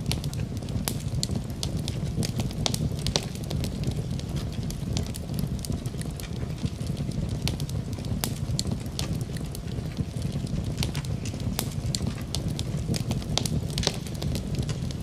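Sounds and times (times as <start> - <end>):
fireplace fire crackling and popping: 0.0 - 15.0.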